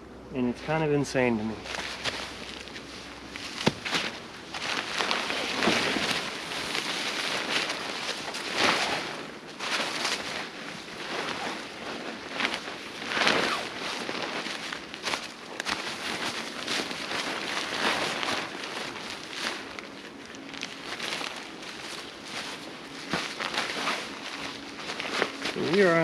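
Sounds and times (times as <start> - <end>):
tarp rustling and flapping: 0.4 - 26.0.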